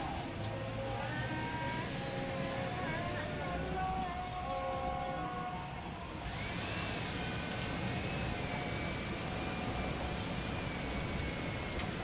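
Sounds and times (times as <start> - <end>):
distant jet engine whine: 0.0 - 12.0.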